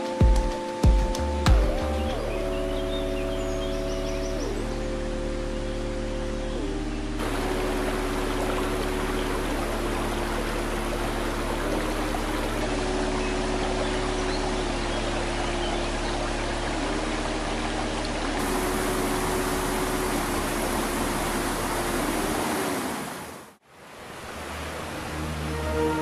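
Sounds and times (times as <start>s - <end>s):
music: 0.0s - 22.4s, 24.6s - 26.0s
rushing water: 0.0s - 26.0s.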